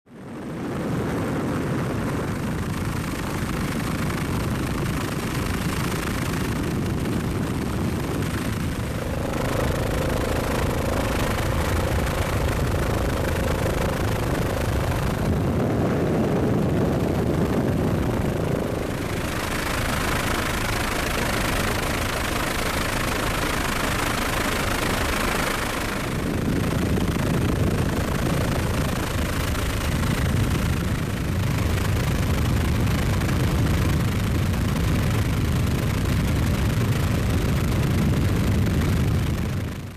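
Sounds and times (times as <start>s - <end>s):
helicopter engine and rotor: 0.1s - 39.9s.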